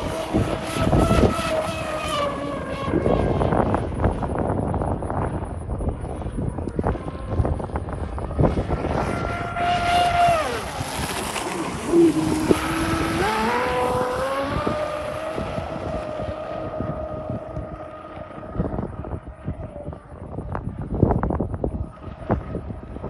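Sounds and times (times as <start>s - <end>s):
electric boat motors whining: 0.0s - 23.0s
wind on microphone: 0.0s - 23.0s.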